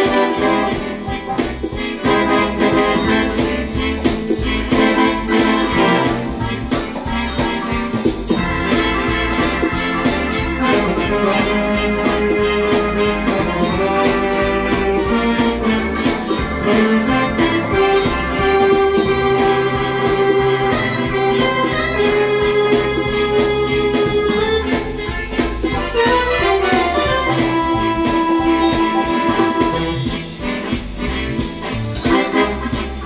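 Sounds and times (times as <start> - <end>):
electronic organ chords and melody: 0.0 - 33.0
pedal bass line: 0.0 - 33.0
steady drum beat: 0.0 - 33.0.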